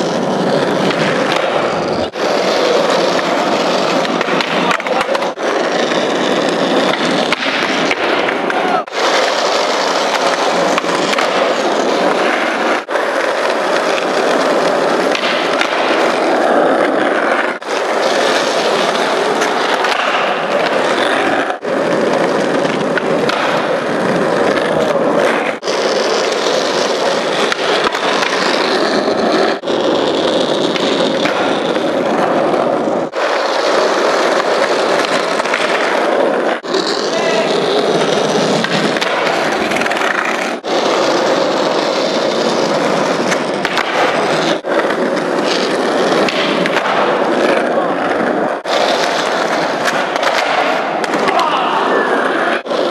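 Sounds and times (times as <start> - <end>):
skateboard wheels rolling: 0.0 - 52.9.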